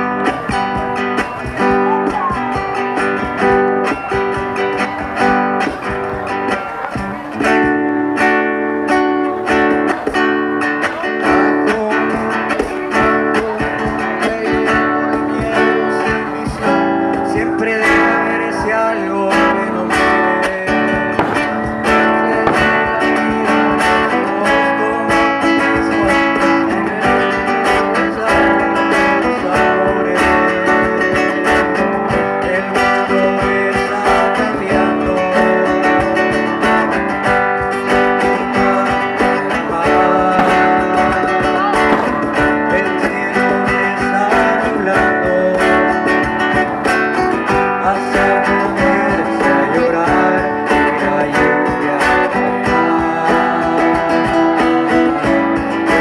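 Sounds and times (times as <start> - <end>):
guitar plucked and strummed: 0.0 - 56.0.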